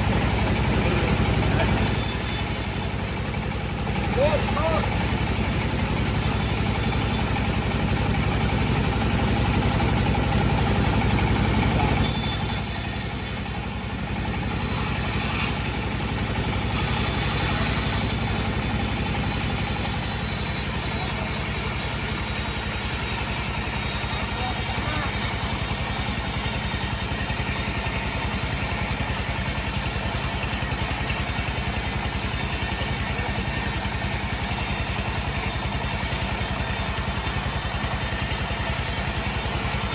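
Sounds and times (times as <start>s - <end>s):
bandsaw machine droning: 0.0s - 39.9s.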